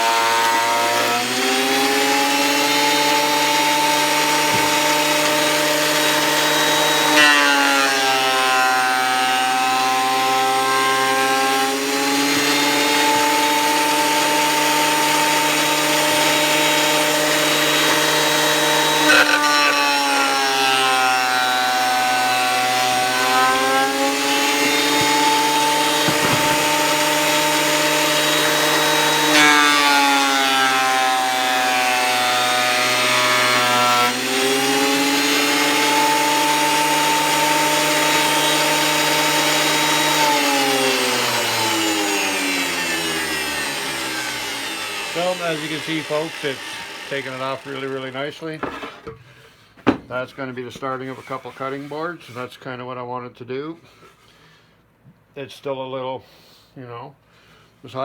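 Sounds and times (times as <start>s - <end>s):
thickness planer whining: 0.0s - 52.4s.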